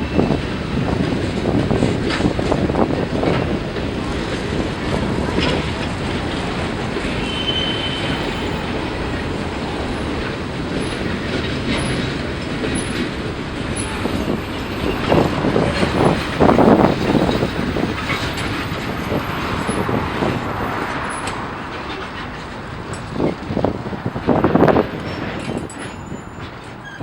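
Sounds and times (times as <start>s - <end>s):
freight cars rumbling: 0.0s - 27.0s.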